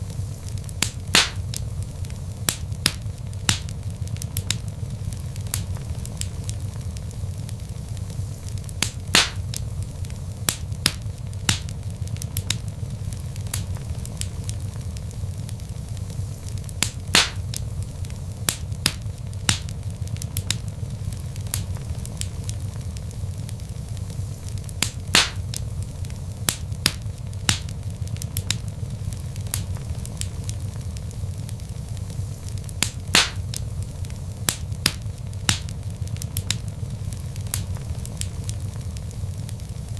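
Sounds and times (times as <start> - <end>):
fire crackling: 0.0 - 39.9
fire popping: 0.0 - 39.9
low rumble of flames: 0.0 - 39.9.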